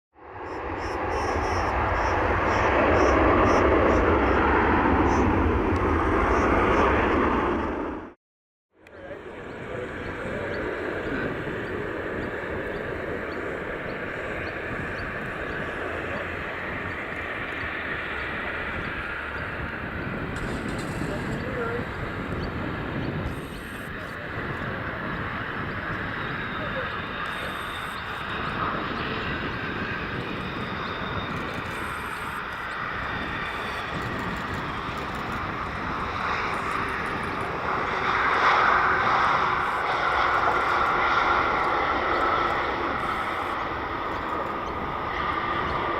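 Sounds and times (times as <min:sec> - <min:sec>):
jet engines running: 0:00.3 - 0:08.2, 0:08.8 - 0:45.9.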